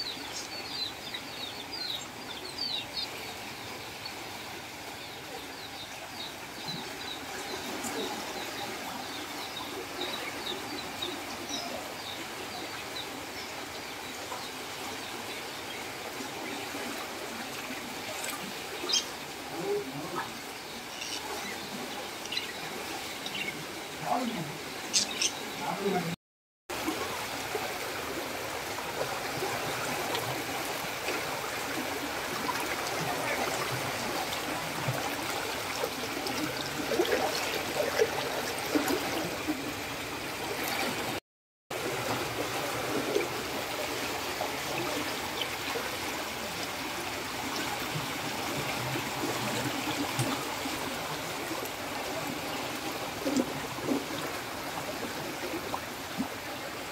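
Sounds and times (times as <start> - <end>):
floodwater rushing and gurgling: 0.0 - 56.9.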